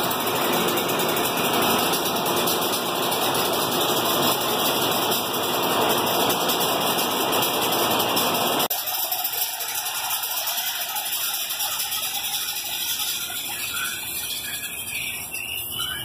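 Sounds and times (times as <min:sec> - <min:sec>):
electric locomotive rushing noise: 0:00.0 - 0:16.0.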